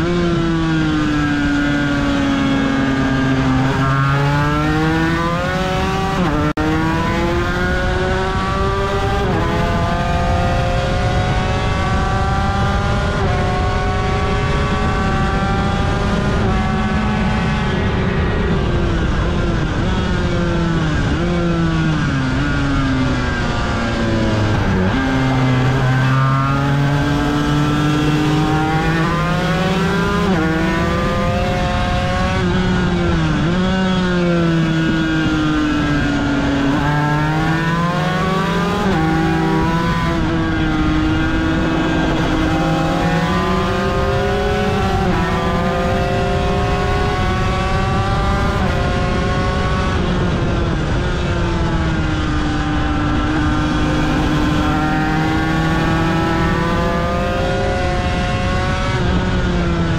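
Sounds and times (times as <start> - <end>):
motorcycle racing engine: 0.0 - 59.9.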